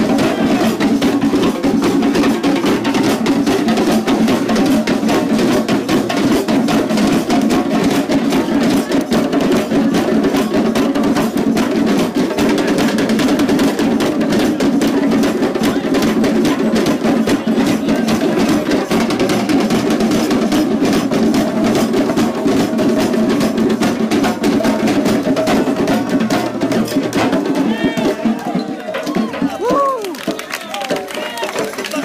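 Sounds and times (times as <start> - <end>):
hand drums playing: 0.0 - 32.0.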